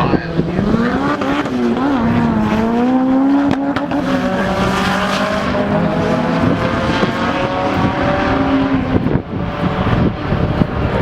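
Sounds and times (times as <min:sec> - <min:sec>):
turbocharged car engine running hard: 0:00.0 - 0:11.0.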